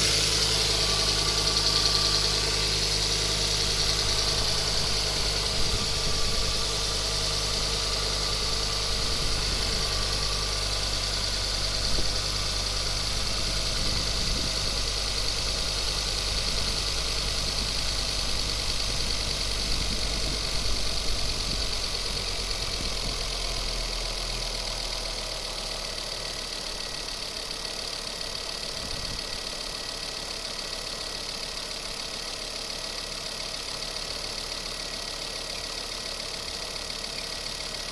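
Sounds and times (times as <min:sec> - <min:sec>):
car engine running with rumble: 0:00.0 - 0:37.9.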